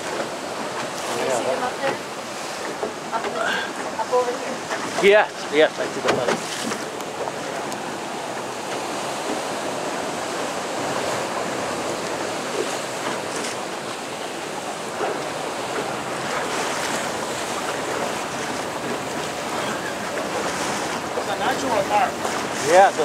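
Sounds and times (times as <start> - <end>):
ocean waves and surf: 0.0 - 23.0.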